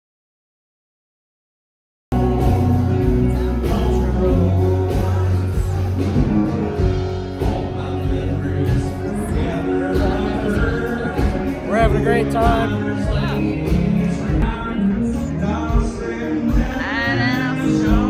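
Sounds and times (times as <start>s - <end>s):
rock band with singer: 2.1s - 18.0s.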